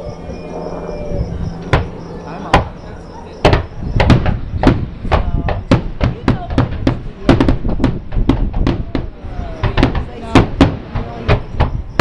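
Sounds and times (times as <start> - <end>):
fireworks bursts: 1.6 - 12.0.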